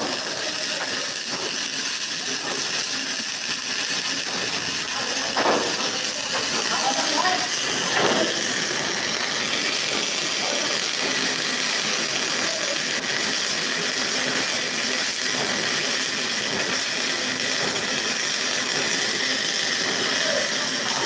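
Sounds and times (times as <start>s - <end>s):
welding arc crackling: 0.0s - 21.0s.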